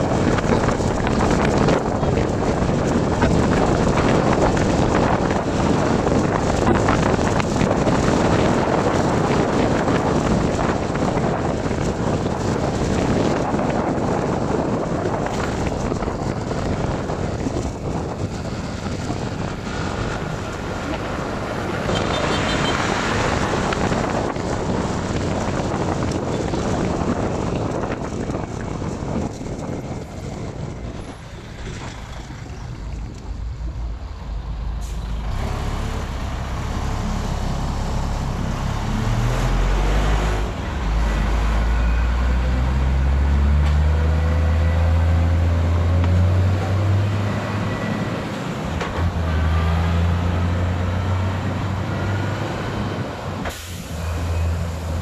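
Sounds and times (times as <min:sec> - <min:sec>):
heavy truck diesel engine: 0:00.0 - 0:55.0
wind and road noise: 0:00.0 - 0:55.0.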